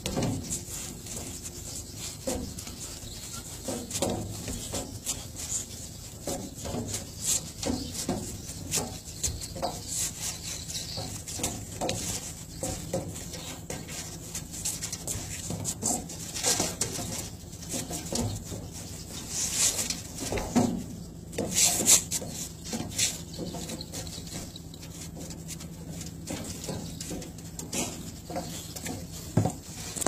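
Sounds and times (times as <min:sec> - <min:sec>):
feet shuffling on a deck: 0:00.0 - 0:30.0
steady low hum: 0:00.0 - 0:30.0.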